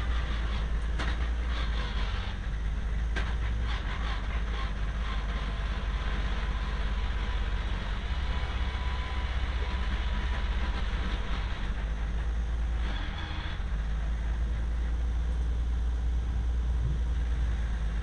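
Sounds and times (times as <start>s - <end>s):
car engine drone: 0.0s - 18.0s
road and wind noise: 0.0s - 18.0s.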